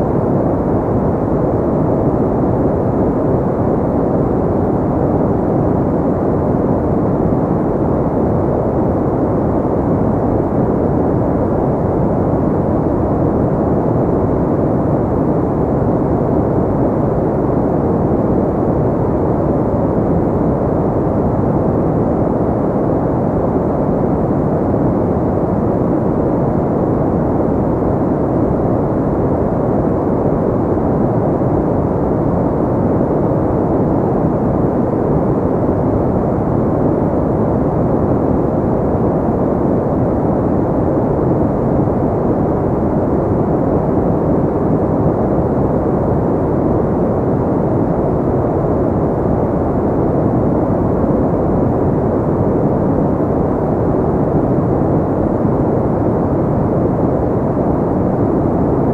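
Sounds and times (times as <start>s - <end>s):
deep muffled white noise hiss: 0.0s - 58.9s.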